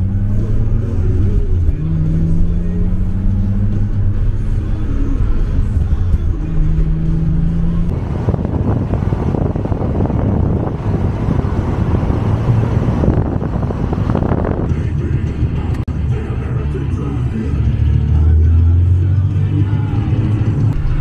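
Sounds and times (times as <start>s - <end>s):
car engine hum: 0.0s - 21.0s
road and wind rush: 0.0s - 21.0s.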